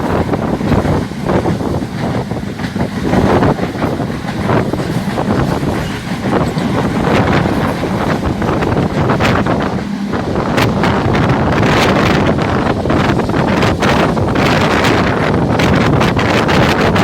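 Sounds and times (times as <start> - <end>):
moving train running: 0.0 - 17.0
wind buffeting microphone: 0.0 - 17.0.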